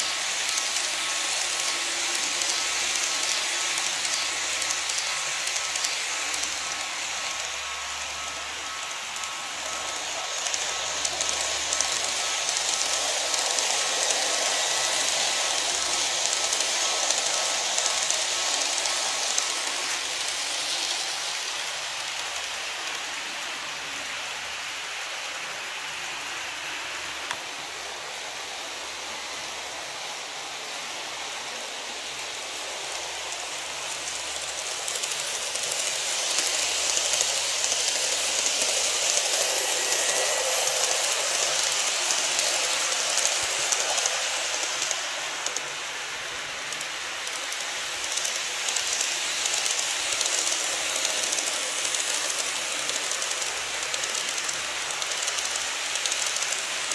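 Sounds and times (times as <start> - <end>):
model trains rattling on track: 0.0 - 56.9.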